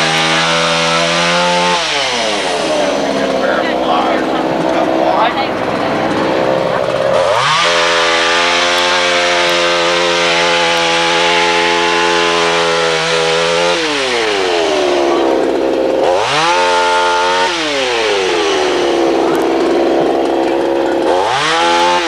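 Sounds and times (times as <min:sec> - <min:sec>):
chainsaw revving and idling: 0:00.0 - 0:22.0.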